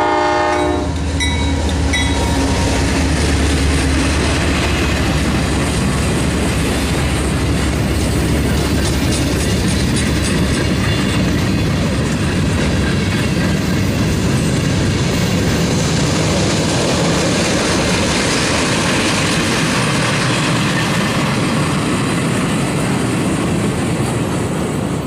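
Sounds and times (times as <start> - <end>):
train wheels on rail: 0.0 - 25.0.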